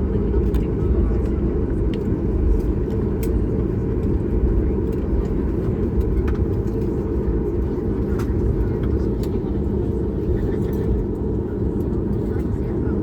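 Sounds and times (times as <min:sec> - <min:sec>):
aircraft cabin rumble in flight: 0:00.0 - 0:13.0.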